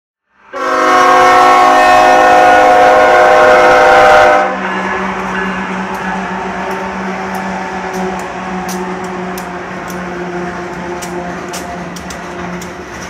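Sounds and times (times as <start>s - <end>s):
locomotive air horn blast: 0.5s - 12.0s
locomotive engine humming: 0.6s - 13.0s.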